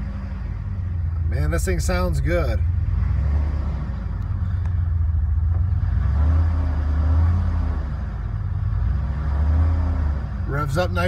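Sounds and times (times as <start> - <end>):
car engine revving: 0.0 - 11.0
deep throaty exhaust: 0.0 - 11.0.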